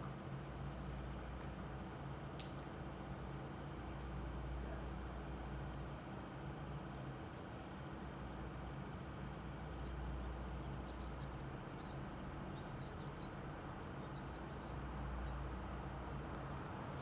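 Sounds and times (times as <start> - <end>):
low ambient rumble: 0.0 - 17.0.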